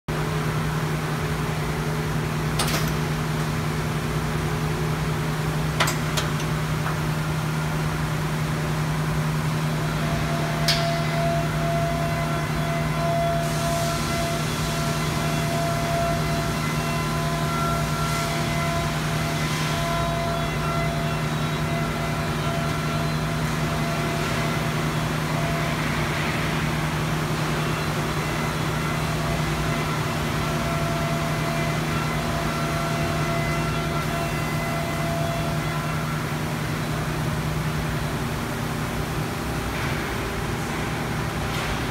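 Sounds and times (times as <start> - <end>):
high machine whine: 0.1 - 41.9
machinery low hum: 0.1 - 41.9.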